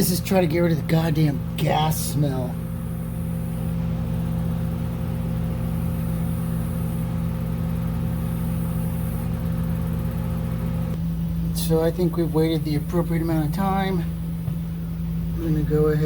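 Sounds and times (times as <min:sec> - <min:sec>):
electric fan humming: 0:00.0 - 0:16.0.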